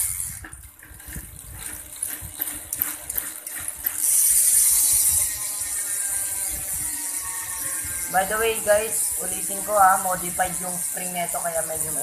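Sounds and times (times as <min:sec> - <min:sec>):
bicycle hub ratchet clicking: 0:00.0 - 0:12.0.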